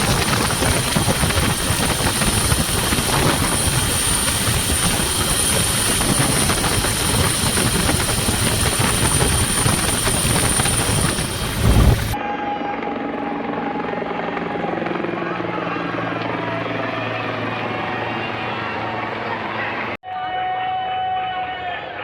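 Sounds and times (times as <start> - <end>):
helicopter flying overhead: 0.0 - 20.0.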